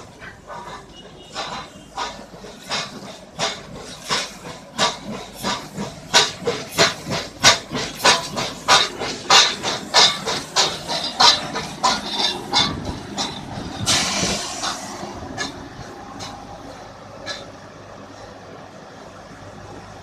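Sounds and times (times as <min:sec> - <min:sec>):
steam locomotive chuffing: 0:00.0 - 0:20.0
steam hiss: 0:00.2 - 0:17.4.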